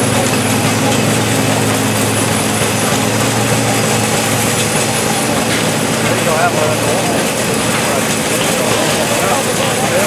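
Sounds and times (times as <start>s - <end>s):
low engine hum: 0.0s - 10.0s
threshing machine running: 0.0s - 10.0s.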